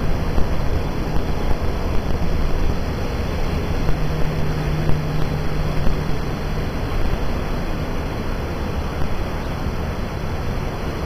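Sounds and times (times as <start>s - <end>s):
low steady hum: 0.0s - 11.0s
wind on microphone: 0.0s - 11.0s.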